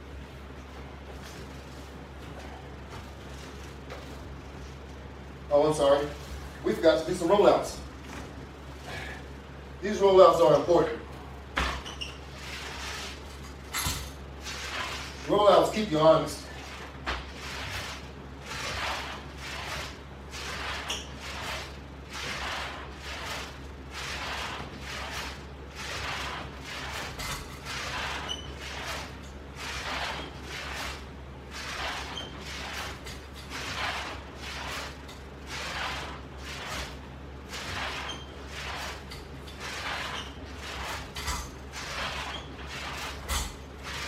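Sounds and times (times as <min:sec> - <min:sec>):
low electrical hum: 0:00.0 - 0:44.0.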